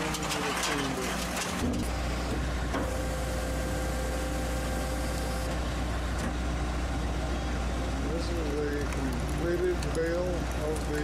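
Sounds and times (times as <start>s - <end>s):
baler machine drone: 0.0s - 11.0s.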